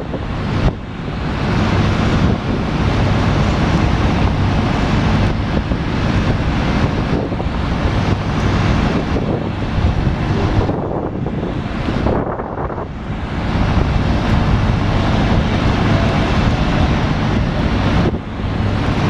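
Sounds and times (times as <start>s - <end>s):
boat engines rumbling: 0.0s - 19.0s
wind buffeting microphone: 0.0s - 19.0s.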